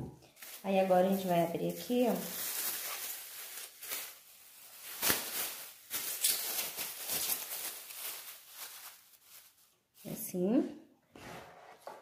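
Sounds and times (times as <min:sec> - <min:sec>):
plastic bag crinkling: 0:00.3 - 0:10.4.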